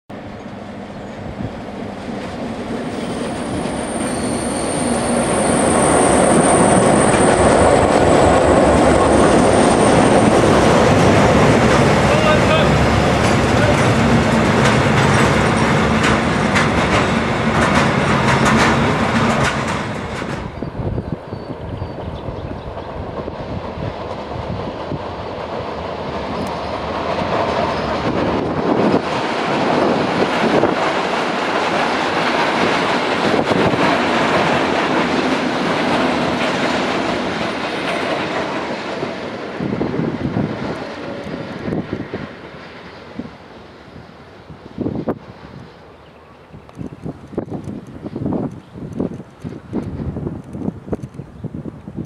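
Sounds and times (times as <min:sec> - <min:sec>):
diesel locomotive engine under load: 0:00.1 - 0:52.0
train wheels on rails: 0:00.1 - 0:52.0.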